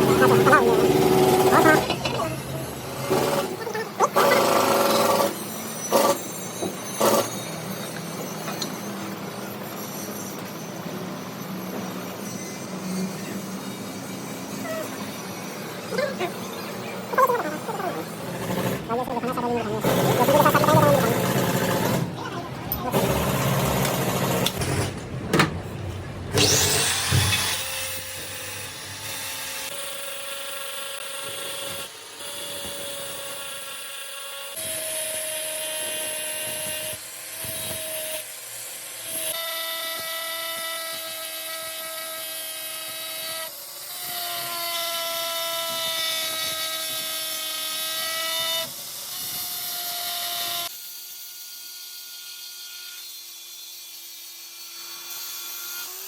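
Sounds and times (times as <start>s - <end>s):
metalworking power tool whining: 0.0s - 56.0s.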